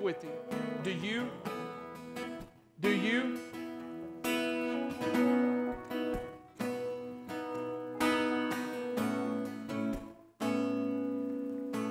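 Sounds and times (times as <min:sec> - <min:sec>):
acoustic guitar strumming chords: 0:00.0 - 0:11.9.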